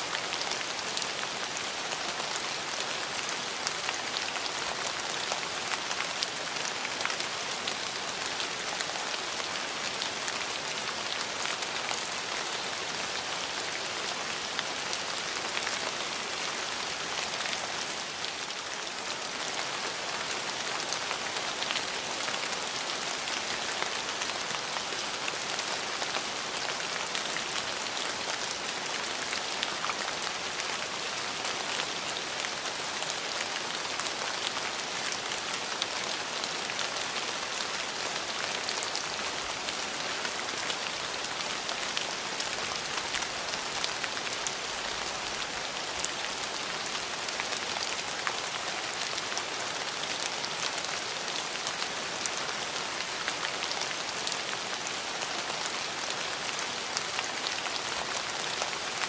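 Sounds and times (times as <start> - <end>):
rain on hard surfaces: 0.0 - 59.0.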